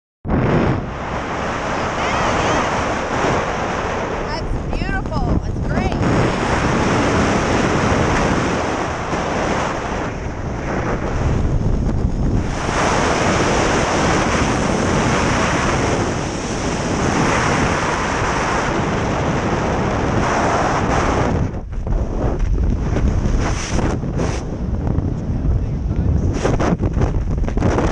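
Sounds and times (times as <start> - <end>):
wind buffeting microphone: 0.3 - 27.9.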